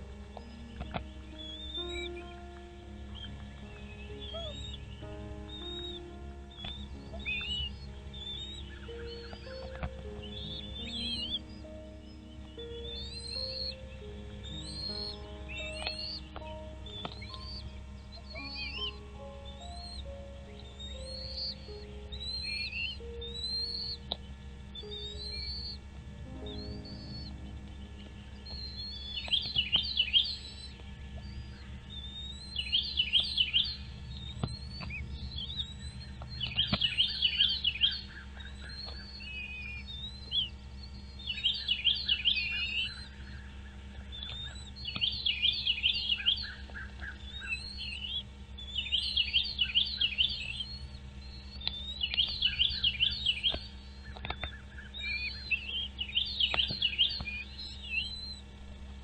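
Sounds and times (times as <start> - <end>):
songbird trilling: 0.0 - 58.6
high bird chirps: 0.0 - 59.0
steady low hum: 0.0 - 59.0.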